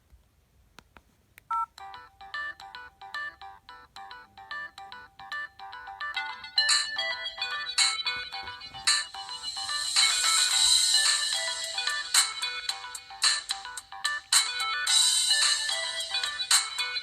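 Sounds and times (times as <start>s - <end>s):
synthesized ringtone melody: 1.5s - 17.0s.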